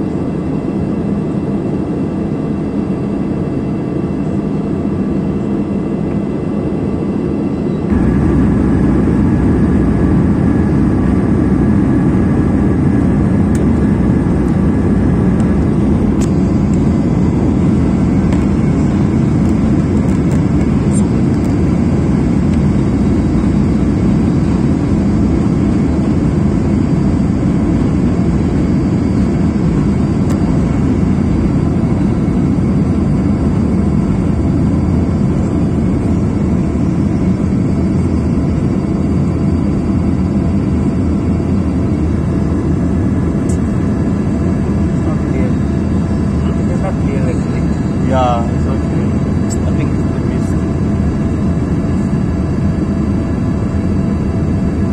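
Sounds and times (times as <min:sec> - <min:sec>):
faint high whine: 0:00.0 - 0:54.9
jet cabin engine noise: 0:00.0 - 0:54.9.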